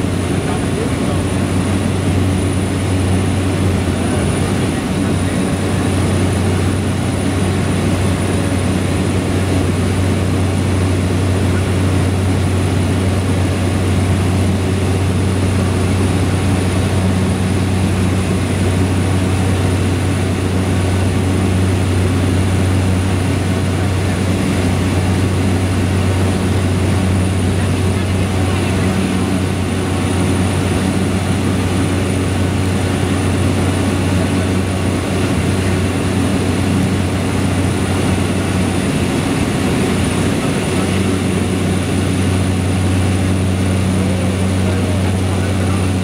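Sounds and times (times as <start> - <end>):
turboprop engine droning: 0.0 - 46.0.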